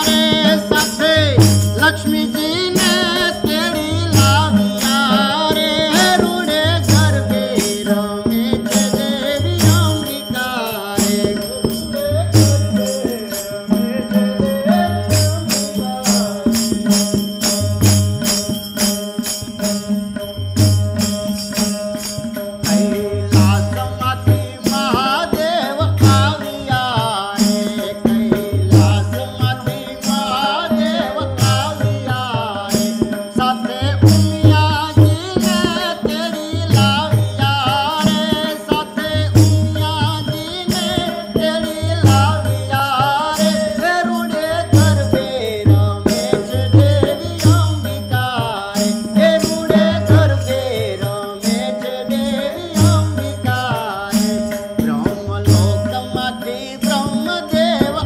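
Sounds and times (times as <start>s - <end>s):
hand cymbals jingling: 0.0s - 58.0s
tabla dance rhythm: 0.0s - 58.0s.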